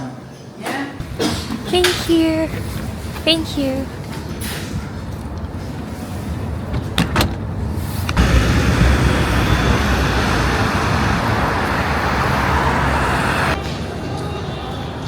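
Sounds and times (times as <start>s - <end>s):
low traffic rumble: 1.0s - 13.6s.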